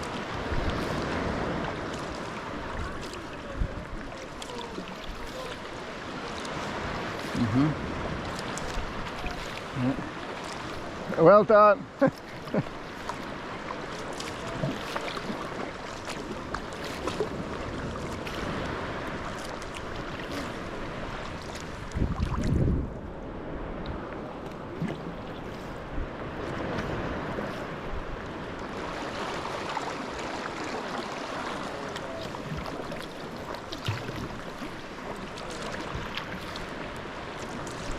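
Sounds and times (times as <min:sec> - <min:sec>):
water washing: 0:00.0 - 0:22.6, 0:26.4 - 0:37.9
paddle splashes and drips: 0:00.0 - 0:37.9
waves lapping at hull: 0:00.0 - 0:37.9.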